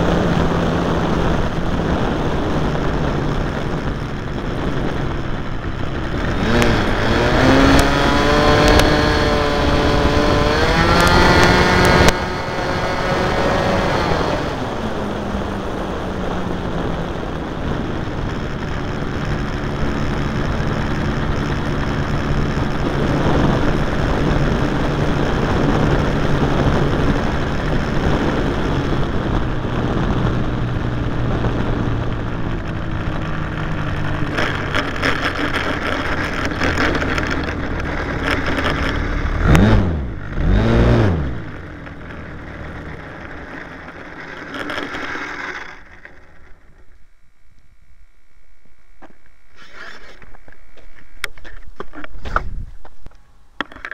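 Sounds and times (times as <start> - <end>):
wheels rattling on tarmac: 0.0 - 47.1, 49.0 - 53.9
model plane motor: 0.1 - 29.6, 31.3 - 47.0.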